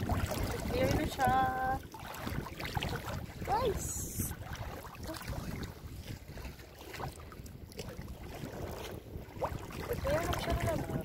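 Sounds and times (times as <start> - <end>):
seawater sloshing around waders: 0.0 - 11.0
wind buffeting microphone: 0.0 - 11.0.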